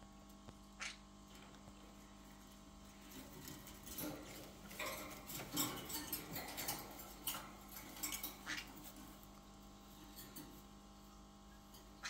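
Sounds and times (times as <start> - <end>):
parrot claws and beaks on cage: 0.4 - 11.0.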